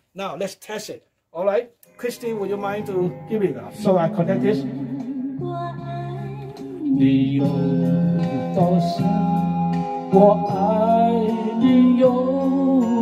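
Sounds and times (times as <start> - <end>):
karaoke backing music: 1.9 - 13.0.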